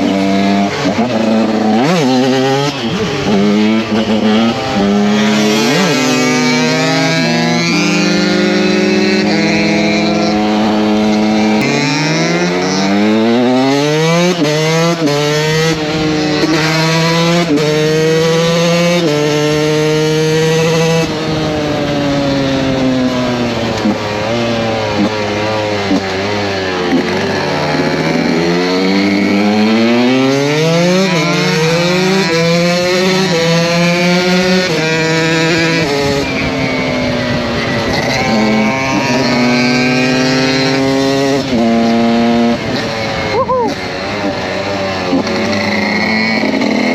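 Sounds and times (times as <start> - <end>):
two-stroke engine accelerating: 0.0 - 46.9.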